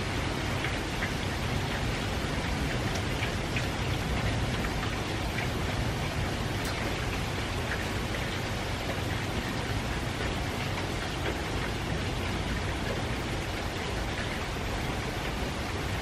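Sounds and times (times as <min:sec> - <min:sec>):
light steady rain: 0:00.0 - 0:16.0
raindrops ticking: 0:00.0 - 0:16.0.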